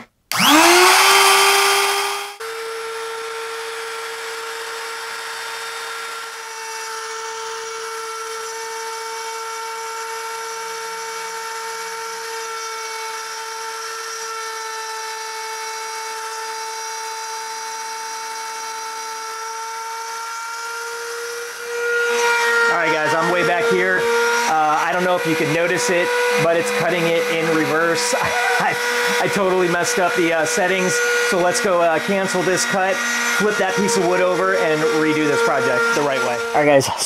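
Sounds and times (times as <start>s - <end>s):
router spindle whining: 0.0s - 37.0s.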